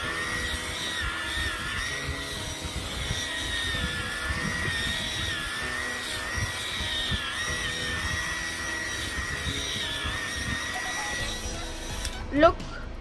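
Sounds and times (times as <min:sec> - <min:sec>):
epilator motor whine: 0:00.0 - 0:12.4.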